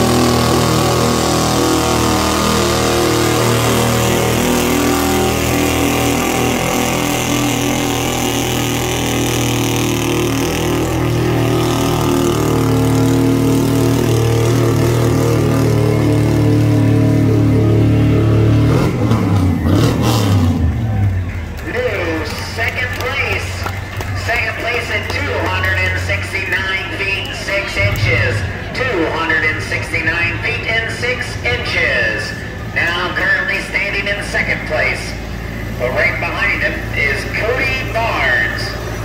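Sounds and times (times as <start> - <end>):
vehicle engine running hard: 0.0 - 39.0.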